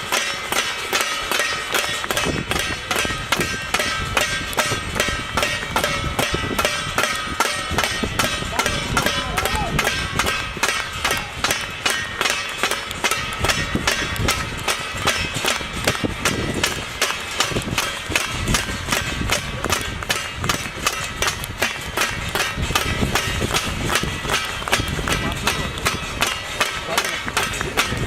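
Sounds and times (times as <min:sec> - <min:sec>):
fast steady percussion: 0:00.0 - 0:28.0.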